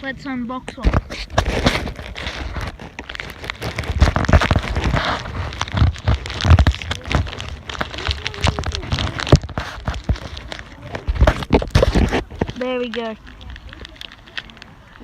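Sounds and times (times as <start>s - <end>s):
plastic wrapper crinkling: 0.7s - 15.0s.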